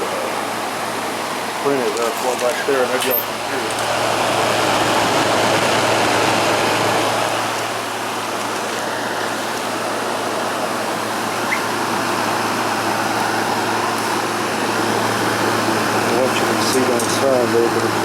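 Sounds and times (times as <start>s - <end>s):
window air conditioner running: 0.0s - 18.0s.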